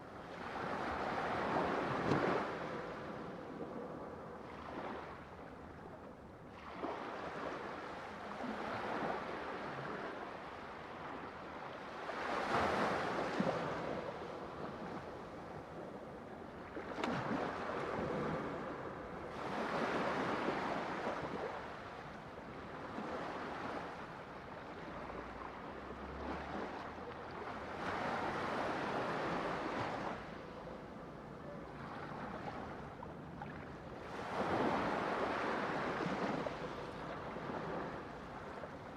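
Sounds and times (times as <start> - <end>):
ocean waves breaking on shore: 6.5 - 38.9.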